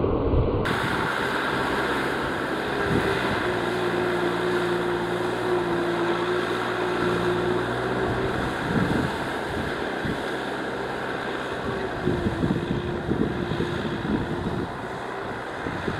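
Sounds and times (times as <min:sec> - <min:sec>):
tractor engine under load: 0:00.6 - 0:15.9.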